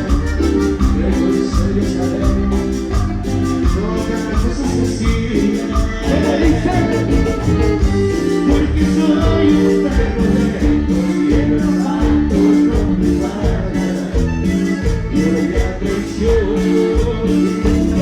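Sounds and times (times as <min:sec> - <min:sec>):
live band playing latin dance music: 0:00.0 - 0:18.0.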